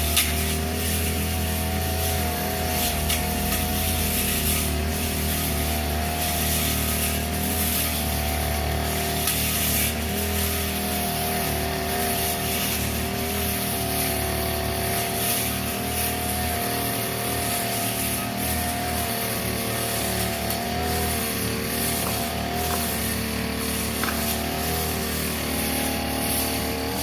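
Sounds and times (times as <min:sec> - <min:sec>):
brush cutter engine cutting grass: 0:00.0 - 0:27.0.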